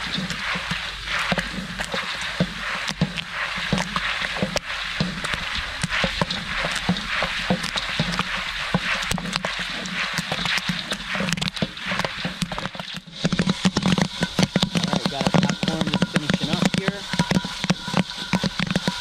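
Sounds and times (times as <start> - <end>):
oil sizzling: 0.0 - 19.0
popcorn popping: 0.0 - 19.0.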